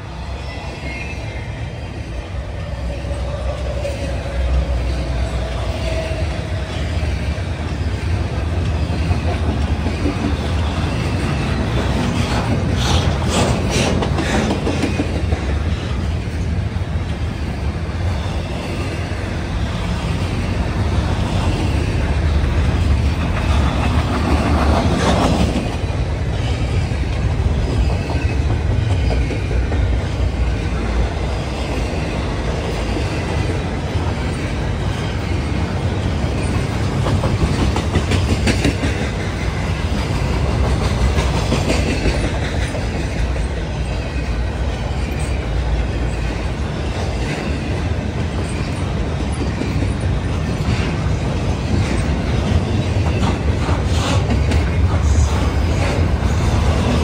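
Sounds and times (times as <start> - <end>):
freight train rumbling past: 0.0 - 57.0
wheels clacking over rail joints: 5.4 - 17.2, 19.9 - 57.0.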